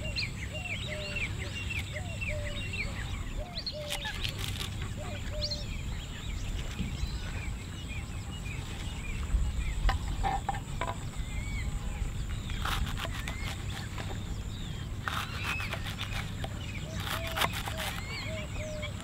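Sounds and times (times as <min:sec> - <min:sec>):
birds chirping: 0:00.0 - 0:19.0
steady high-pitched whine: 0:00.0 - 0:19.0.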